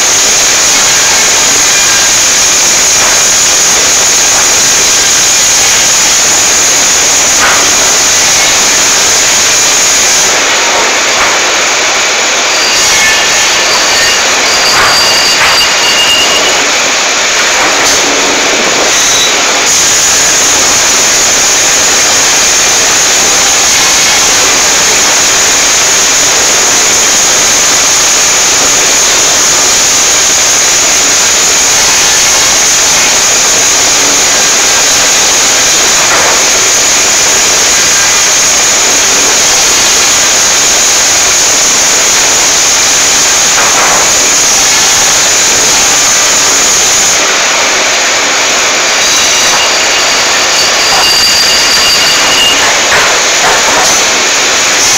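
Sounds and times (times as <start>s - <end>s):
high machine whine: 0.0s - 54.9s
sawmill machinery hiss: 0.0s - 54.9s.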